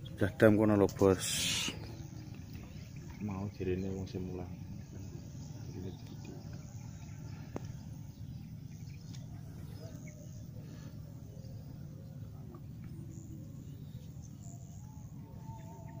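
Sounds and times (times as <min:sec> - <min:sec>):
faint bird chirps: 0:00.0 - 0:16.0
low outdoor rumble: 0:00.0 - 0:16.0.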